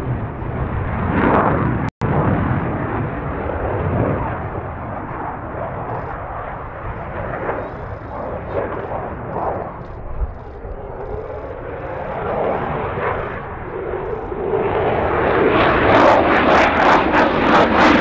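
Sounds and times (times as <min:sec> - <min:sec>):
jet engine roaring overhead: 0:00.0 - 0:18.0.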